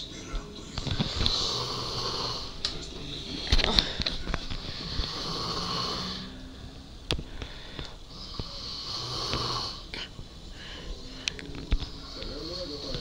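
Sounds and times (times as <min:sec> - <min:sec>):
person snoring: 0:01.0 - 0:06.8, 0:07.4 - 0:13.0.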